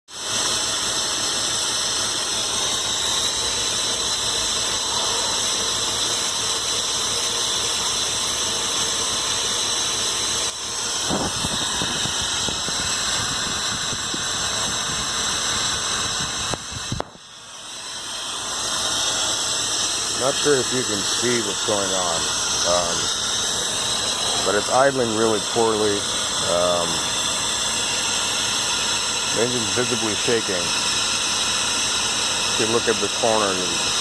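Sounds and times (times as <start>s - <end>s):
car engine idling roughly: 0.1s - 34.0s
loud hissing suction: 0.2s - 31.0s.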